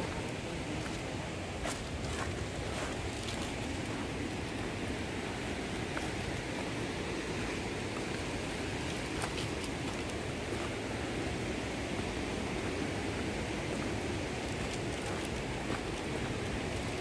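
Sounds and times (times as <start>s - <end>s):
faint footsteps on stony trail: 0.0s - 17.0s
steady outdoor rushing noise: 0.0s - 17.0s.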